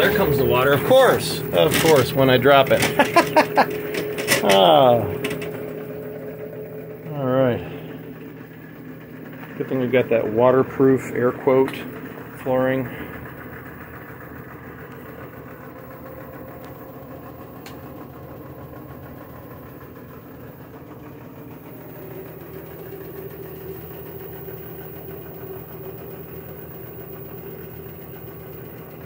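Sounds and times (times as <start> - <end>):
washing machine mechanical hum: 0.0 - 29.0.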